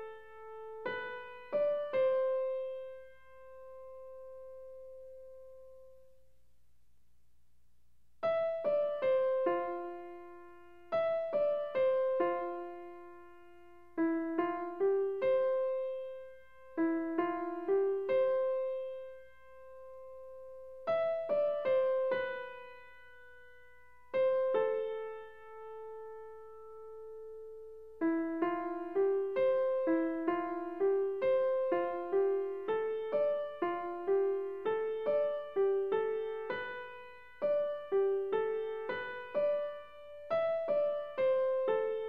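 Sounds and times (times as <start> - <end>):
solo piano melody: 0.0 - 6.2, 8.2 - 42.0.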